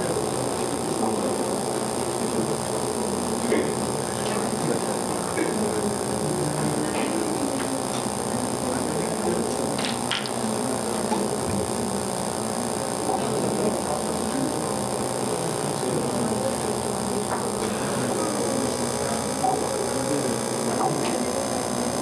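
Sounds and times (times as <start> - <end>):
electrical hum: 0.0 - 22.0
murmur of people talking: 0.0 - 22.0.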